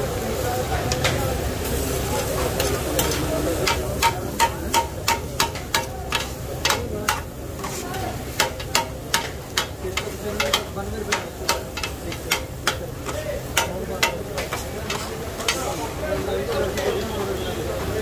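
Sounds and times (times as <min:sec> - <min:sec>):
griddle sizzling: 0:00.0 - 0:18.0
metal spatula clacking on griddle: 0:00.9 - 0:17.2.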